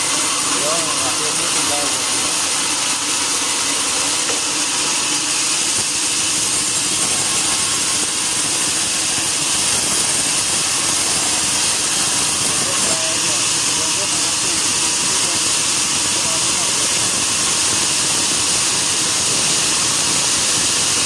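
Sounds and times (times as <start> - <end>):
saw cutting through log: 0.0 - 21.0.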